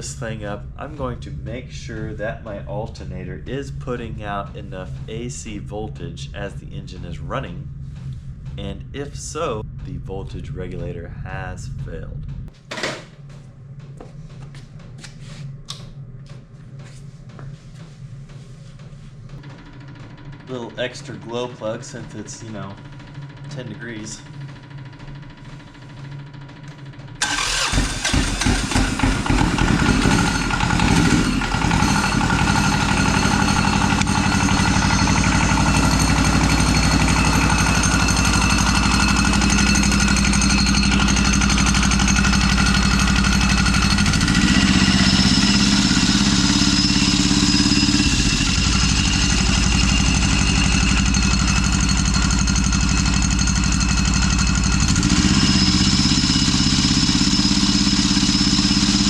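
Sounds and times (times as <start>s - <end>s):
motorcycle diesel engine running: 0.0s - 14.5s, 18.7s - 59.0s.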